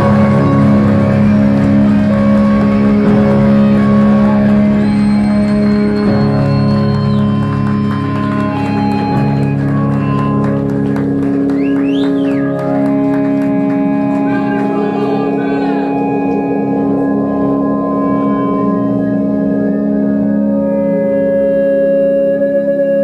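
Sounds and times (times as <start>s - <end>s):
live rock band playing: 0.0s - 22.3s.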